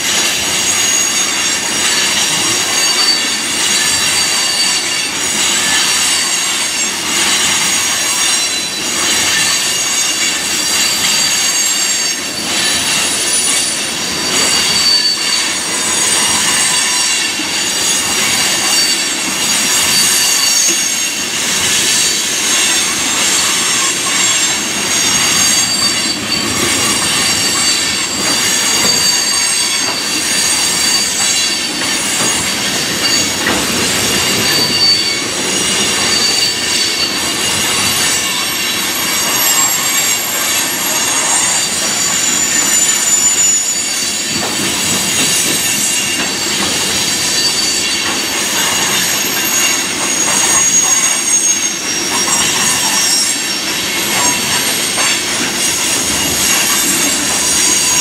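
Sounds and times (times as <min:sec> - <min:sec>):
high-pitched wheel squeals: 0:00.0 - 0:58.0
steel wheels rolling on rail: 0:00.0 - 0:58.0.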